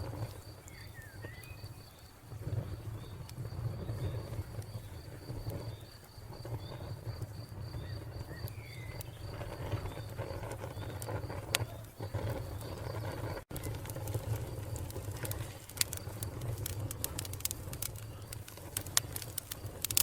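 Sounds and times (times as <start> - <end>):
cricket chirping: 0.0 - 16.4
wood fire crackling: 0.0 - 20.0.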